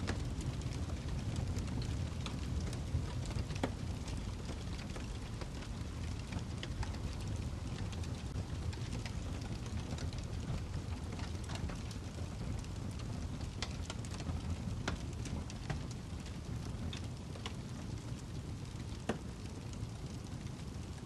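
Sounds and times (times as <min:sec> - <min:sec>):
fire crackles and pops: 0:00.0 - 0:21.0
low rumble of flames: 0:00.0 - 0:21.0.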